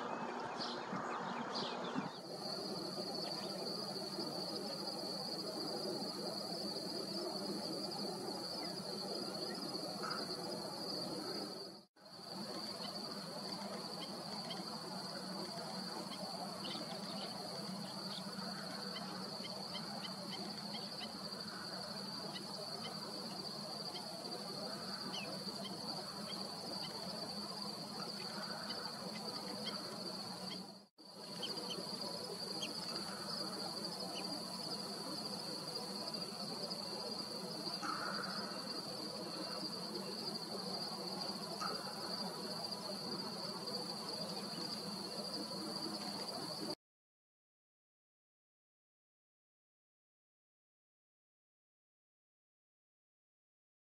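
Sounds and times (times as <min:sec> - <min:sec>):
insects trilling: 0:00.0 - 0:46.8.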